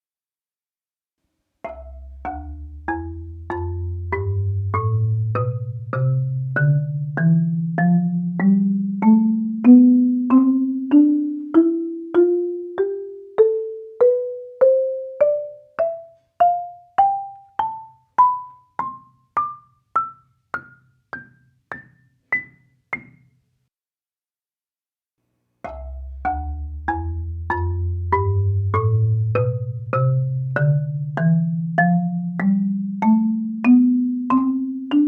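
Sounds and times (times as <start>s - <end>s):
marimba ascending scale: 1.7s - 23.2s, 25.7s - 35.0s.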